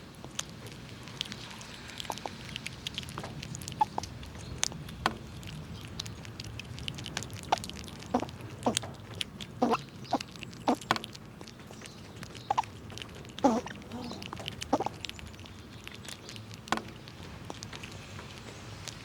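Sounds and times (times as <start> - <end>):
squirrels cracking nutshells: 0.0 - 19.0.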